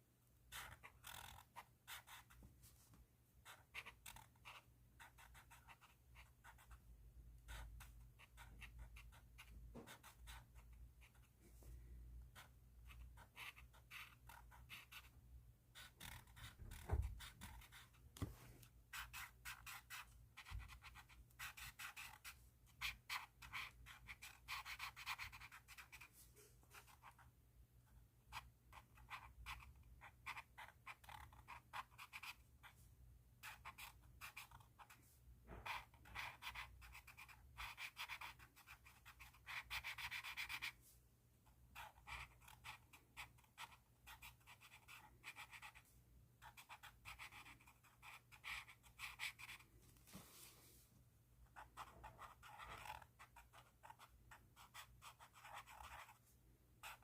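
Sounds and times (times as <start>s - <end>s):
pen scratching on paper: 0.5s - 2.5s, 3.4s - 11.4s, 12.2s - 27.3s, 28.3s - 32.8s, 33.4s - 40.8s, 41.7s - 49.7s, 51.5s - 56.2s, 56.8s - 57.0s.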